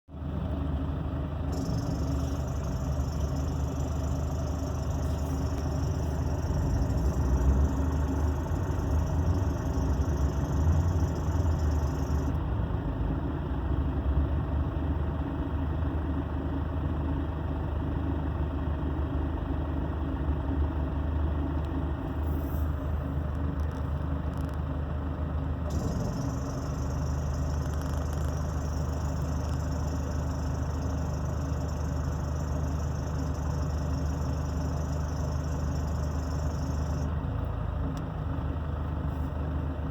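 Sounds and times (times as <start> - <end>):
diesel engine idling: 0.1 - 39.9.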